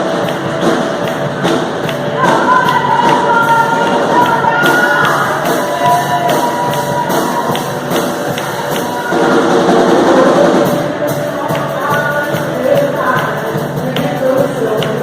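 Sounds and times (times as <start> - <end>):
drum kit beat: 0.0 - 15.0
gospel band playing: 0.0 - 15.0
person singing: 1.3 - 15.0.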